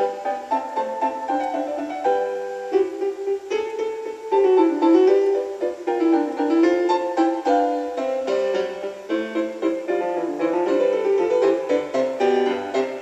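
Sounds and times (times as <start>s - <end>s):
classical piano music on radio: 0.0s - 13.0s.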